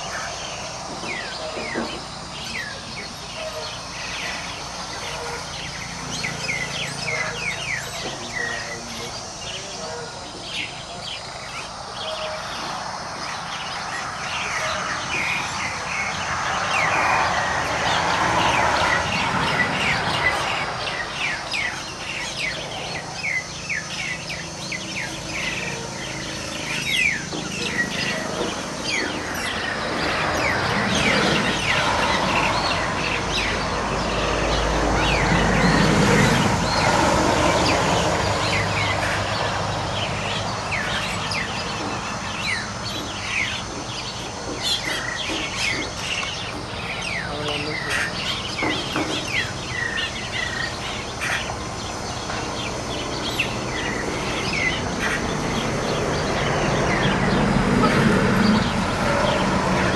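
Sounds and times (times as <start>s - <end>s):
myna birds chirping: 0.0s - 59.9s
rushing background noise: 0.0s - 59.9s.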